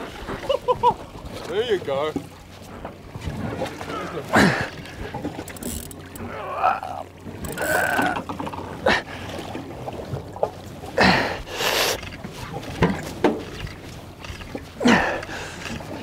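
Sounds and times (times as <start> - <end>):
sea noise: 0.0 - 16.0
wind: 0.0 - 16.0.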